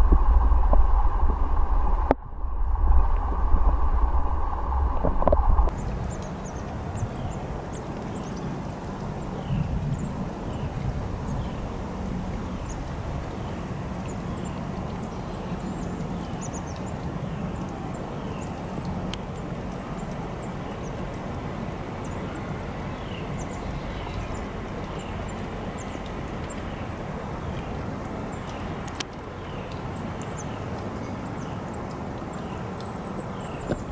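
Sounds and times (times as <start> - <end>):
outdoor rumble and hiss: 0.0 - 33.9.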